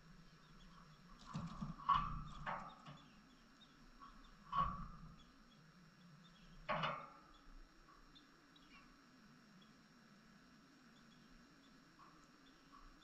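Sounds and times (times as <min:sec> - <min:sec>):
birds tapping and rustling: 0:00.0 - 0:09.0, 0:10.9 - 0:13.0.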